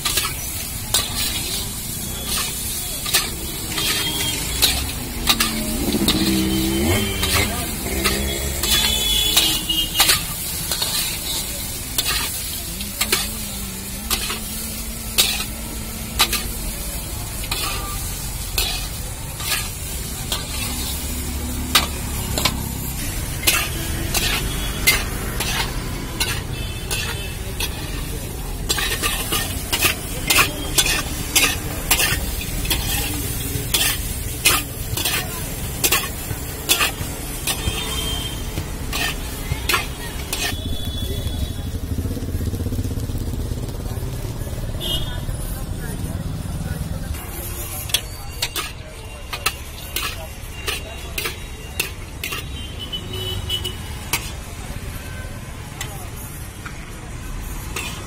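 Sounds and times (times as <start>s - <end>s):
metal spatula scraping a pan: 0.0s - 40.6s, 47.2s - 52.7s, 53.6s - 55.0s, 57.4s - 58.0s
sizzle of frying: 0.0s - 58.0s.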